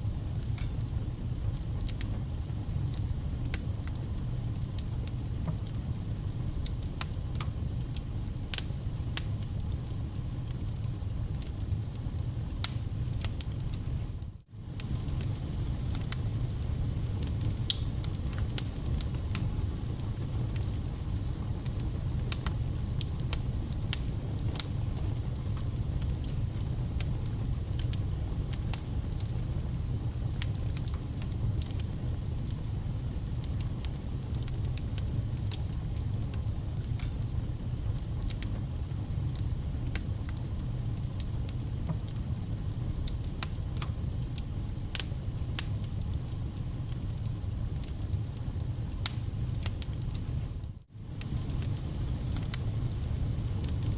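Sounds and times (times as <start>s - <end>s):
burning logs crackling: 0.0s - 53.9s
low rumble of flames: 0.0s - 53.9s.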